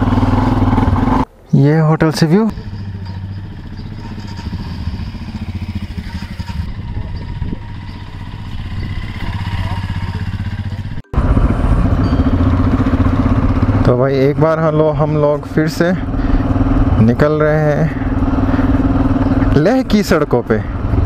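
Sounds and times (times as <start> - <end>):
close motorcycle engine running: 0.0 - 1.3, 2.5 - 21.0
motorcycle engines pulling away: 0.0 - 1.3, 2.5 - 21.0.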